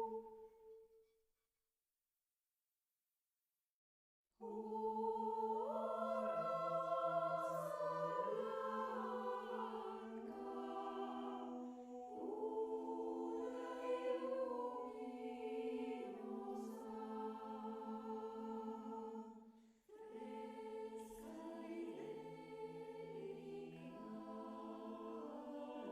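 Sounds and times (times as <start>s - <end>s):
choir singing a cappella: 0.0s - 0.4s, 4.4s - 25.9s.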